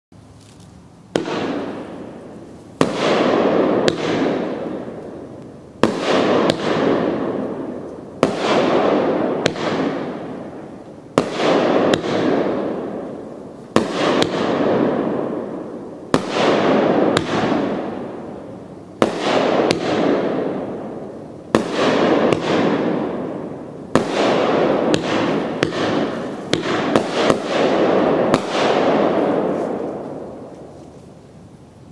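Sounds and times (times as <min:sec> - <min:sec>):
firework reports: 0:01.2 - 0:30.8.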